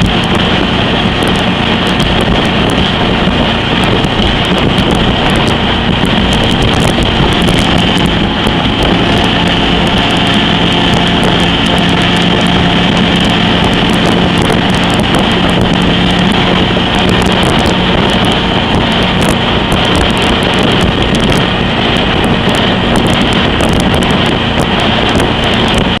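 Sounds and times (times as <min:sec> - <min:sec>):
speedboat engine running: 0:00.0 - 0:26.0
wind on microphone: 0:00.0 - 0:26.0.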